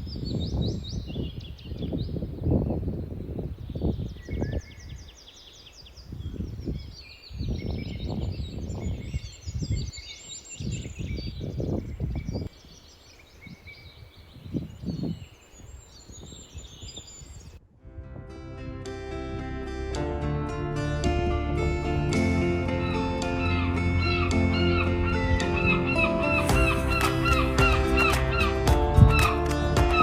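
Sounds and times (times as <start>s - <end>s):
small birds chirping: 0.0s - 17.6s, 21.8s - 30.0s
wind buffeting microphone: 0.0s - 18.8s, 21.9s - 30.0s.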